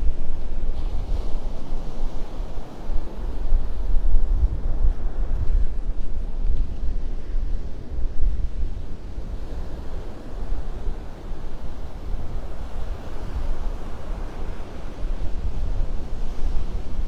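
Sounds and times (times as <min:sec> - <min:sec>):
surf washing on beach: 0:00.0 - 0:17.0
wind buffeting microphone: 0:00.0 - 0:17.0.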